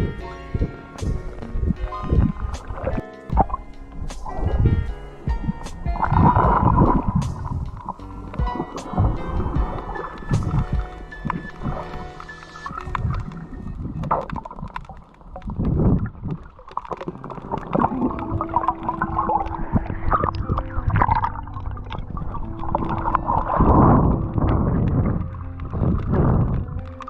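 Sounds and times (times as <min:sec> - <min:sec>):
seawater sloshing and gurgling: 0:00.0 - 0:27.0
swimming splashes: 0:00.0 - 0:27.0.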